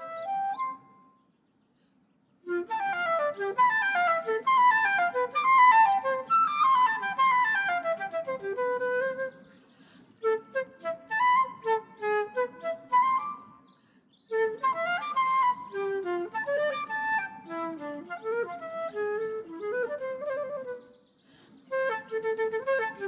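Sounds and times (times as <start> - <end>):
solo flute playing: 0.0 - 1.1, 2.4 - 9.5, 10.2 - 13.7, 14.3 - 21.0, 21.7 - 23.0.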